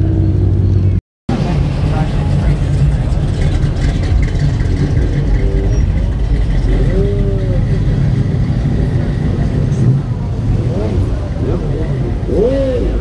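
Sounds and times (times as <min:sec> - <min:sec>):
cars driving past rumbling: 0:00.0 - 0:13.0.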